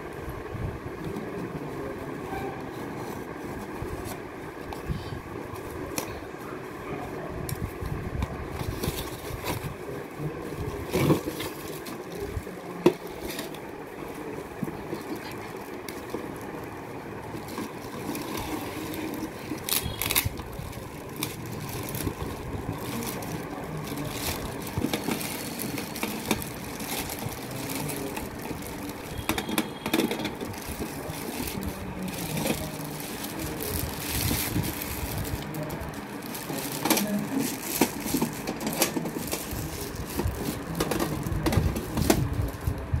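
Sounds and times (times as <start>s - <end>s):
plastic film rustling and crinkling: 7.4s - 43.0s.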